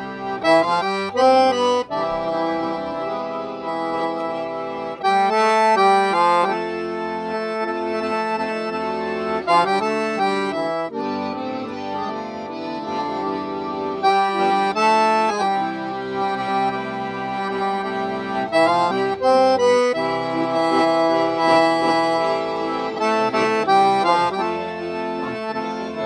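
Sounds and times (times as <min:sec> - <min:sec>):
piano accordions playing a tune: 0:00.0 - 0:26.0.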